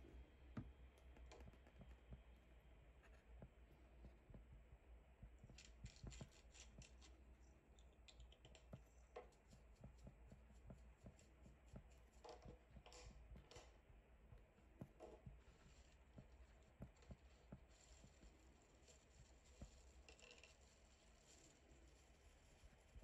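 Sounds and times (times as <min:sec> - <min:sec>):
low steady hum: 0:00.0 - 0:23.0
faint clicks and taps: 0:00.1 - 0:22.0.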